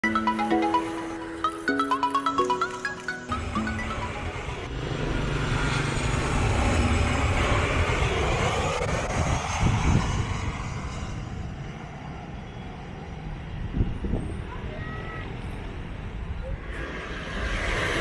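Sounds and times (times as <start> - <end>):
jet plane passing overhead: 0.0 - 18.0.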